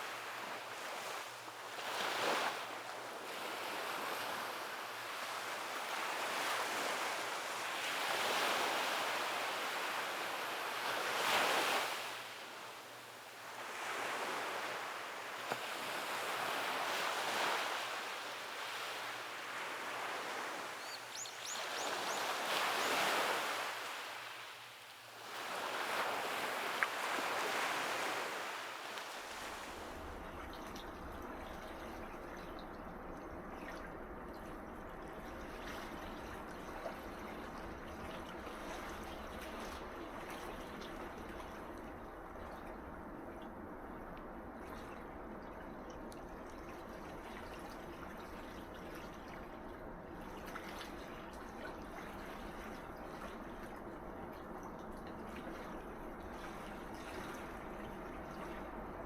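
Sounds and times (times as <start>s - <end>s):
sea waves breaking on a beach: 0.0s - 32.5s, 35.0s - 59.0s.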